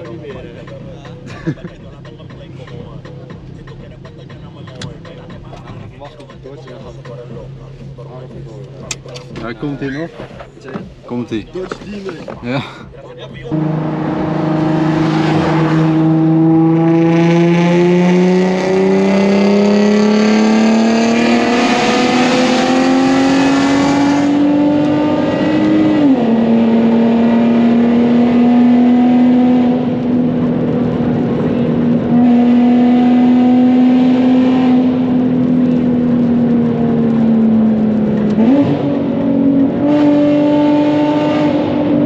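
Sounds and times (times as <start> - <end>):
car engine accelerating: 0.0 - 42.0.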